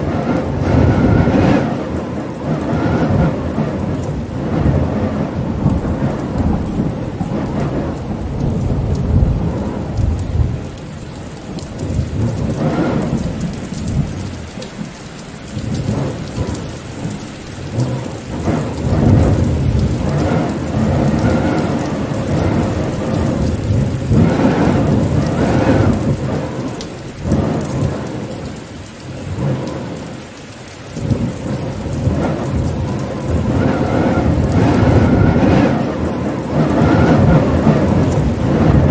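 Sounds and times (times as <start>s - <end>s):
rolling thunder rumbles: 0.0s - 38.9s
steady rain: 0.0s - 38.9s.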